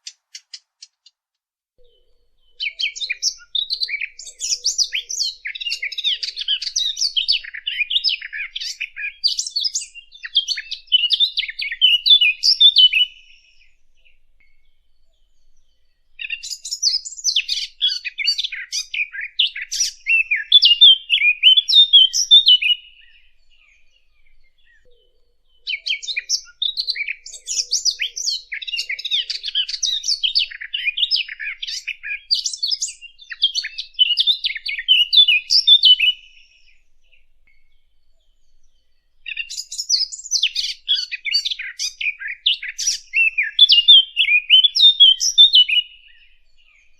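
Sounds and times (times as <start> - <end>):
songbird chattering and warbling: 0.0 - 1.2, 1.8 - 46.9.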